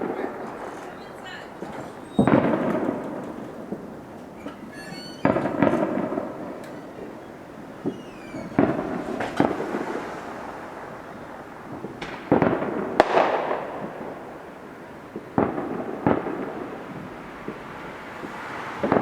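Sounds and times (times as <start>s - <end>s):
fireworks bangs: 0.0s - 19.0s
whistling rockets: 0.0s - 19.0s.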